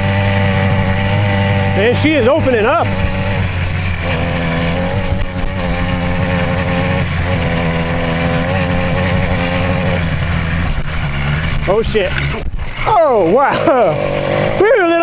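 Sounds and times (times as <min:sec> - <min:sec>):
two-stroke engine high-revving drone: 0:00.0 - 0:15.0.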